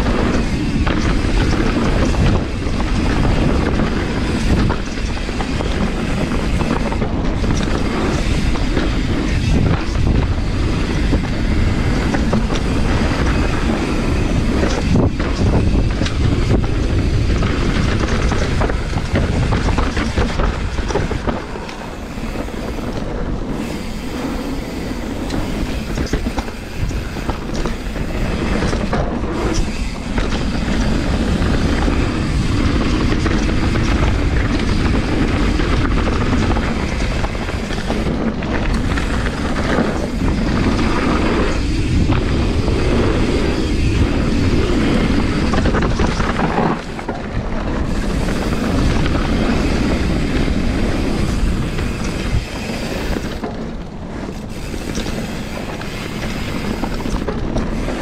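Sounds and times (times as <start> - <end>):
bike rattling and clattering: 0.0 - 58.0
bike tyres rumbling over dirt: 0.0 - 58.0.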